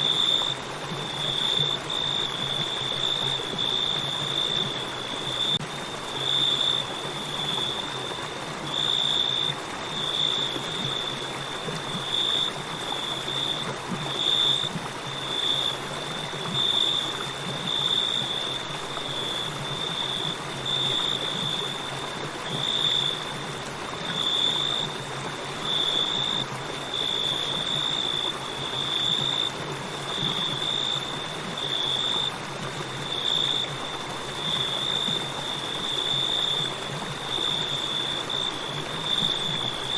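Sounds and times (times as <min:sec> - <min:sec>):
crickets trilling: 0:00.0 - 0:23.4, 0:24.0 - 0:39.9
river flowing: 0:00.0 - 0:39.9.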